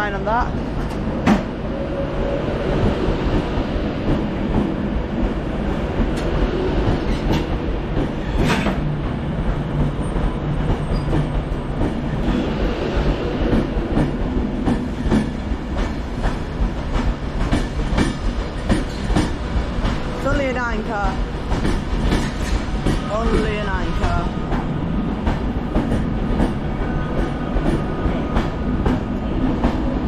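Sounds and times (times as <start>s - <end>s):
electric train rumbling: 0.0s - 30.0s.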